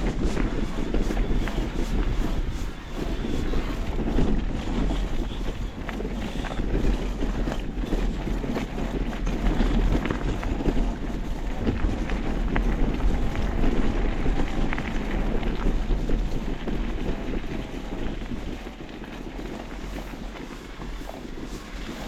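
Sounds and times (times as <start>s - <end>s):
motorcycle engine running: 0.0s - 22.0s
wind buffeting on microphone: 0.0s - 22.0s.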